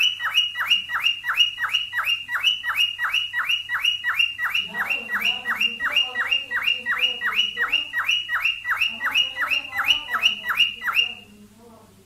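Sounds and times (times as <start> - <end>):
cockatiel whistled call: 0.0 - 11.3.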